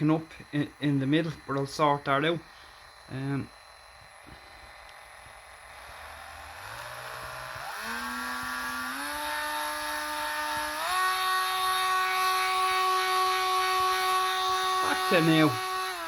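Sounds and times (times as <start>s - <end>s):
rotary tool motor whining: 0.0s - 16.0s.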